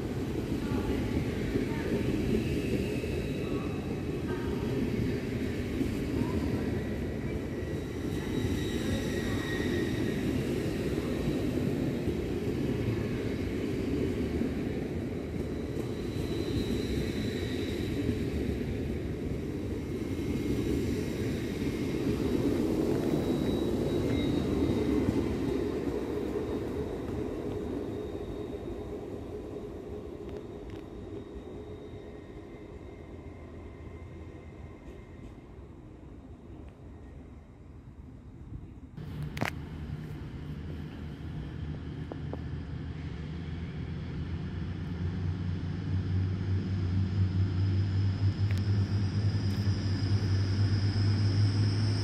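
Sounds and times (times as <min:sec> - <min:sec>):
faint high whining tones: 0:00.0 - 0:46.6
train rumbling: 0:00.0 - 0:52.0.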